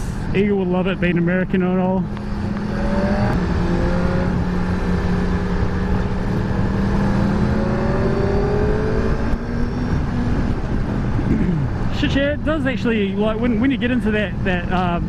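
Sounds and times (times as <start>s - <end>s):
motorcycle engine accelerating: 0.0s - 12.4s
wind rush: 2.1s - 15.0s.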